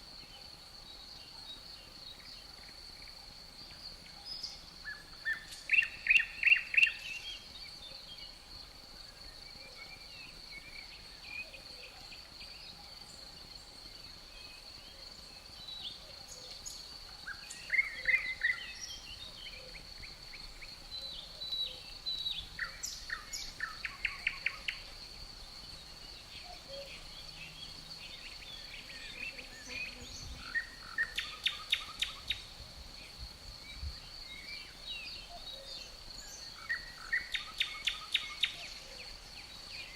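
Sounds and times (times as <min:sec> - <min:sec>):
crickets trilling: 0:00.0 - 0:39.9
songbirds chirping: 0:00.0 - 0:39.9.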